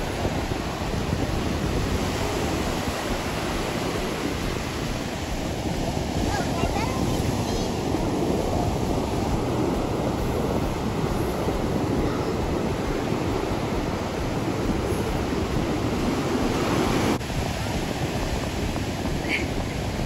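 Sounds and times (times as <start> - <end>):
ocean surf washing ashore: 0.0 - 20.0
wind buffeting microphone: 0.0 - 20.0.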